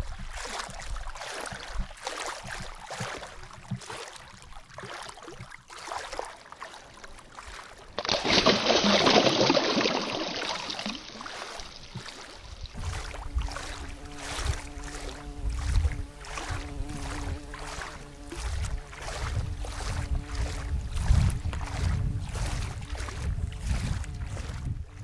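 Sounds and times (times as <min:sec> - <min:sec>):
fish splashing in water: 0:00.0 - 0:24.8
lake water lapping: 0:00.0 - 0:25.0.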